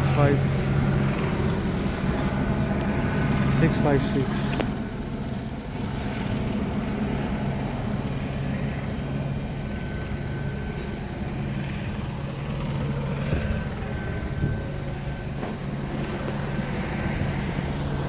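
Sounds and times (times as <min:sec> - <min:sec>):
low engine drone: 0:00.0 - 0:18.0
street traffic: 0:00.0 - 0:18.0.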